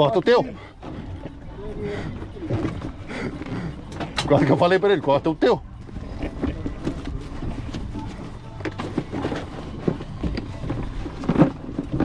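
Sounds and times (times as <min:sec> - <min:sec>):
faint voices: 0:00.0 - 0:11.6
boat engine rumble: 0:00.0 - 0:12.0.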